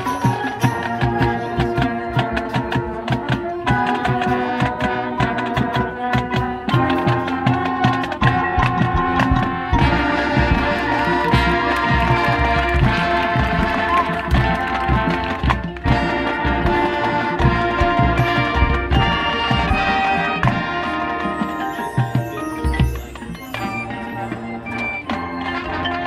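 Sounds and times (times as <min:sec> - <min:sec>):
marching band playing: 0:00.0 - 0:26.0
rapid drumline hits: 0:00.0 - 0:26.0.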